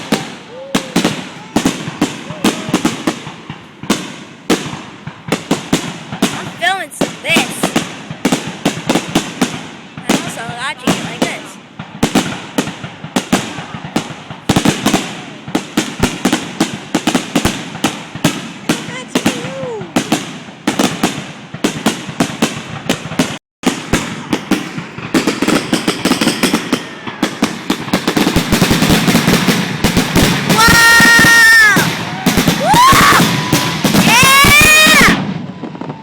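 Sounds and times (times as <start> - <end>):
fireworks bangs and crackle: 0.0 - 36.0.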